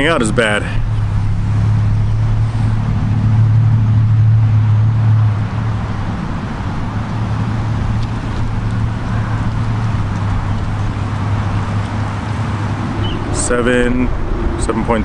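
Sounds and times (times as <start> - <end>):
wind noise: 0.0 - 15.0
drone motors and propellers: 0.8 - 15.0.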